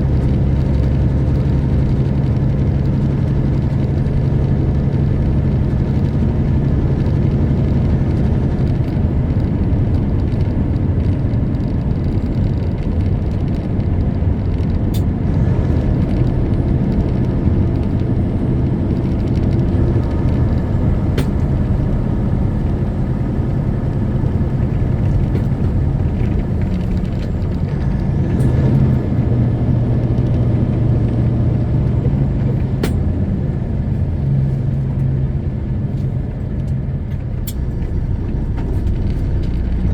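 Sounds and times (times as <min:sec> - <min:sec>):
road noise: 0:00.0 - 0:39.9
truck diesel engine running: 0:00.0 - 0:39.9.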